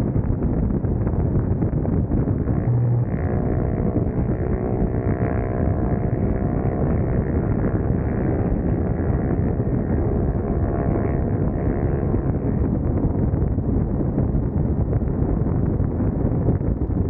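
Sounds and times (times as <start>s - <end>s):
motorcycle engine cruising: 0.0s - 16.7s
wind rushing over microphone: 0.0s - 17.0s.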